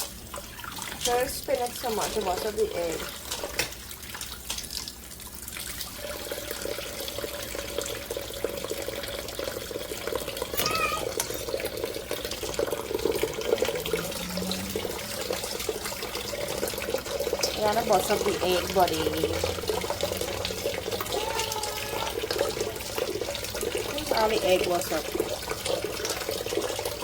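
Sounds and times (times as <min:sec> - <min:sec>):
tap water splashing into sink: 0:00.0 - 0:27.0.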